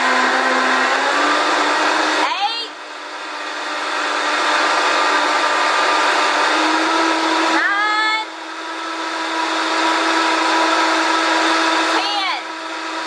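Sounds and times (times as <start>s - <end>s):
blender rising whine: 0.0s - 13.0s
blender whirring: 0.0s - 13.0s.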